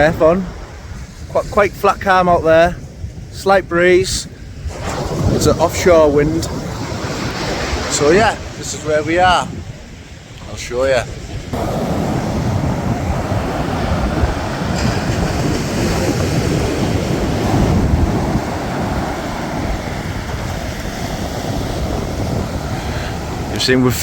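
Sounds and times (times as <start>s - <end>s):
surf breaking on a beach: 0.0s - 24.0s
wind rumble on microphone: 0.0s - 24.0s.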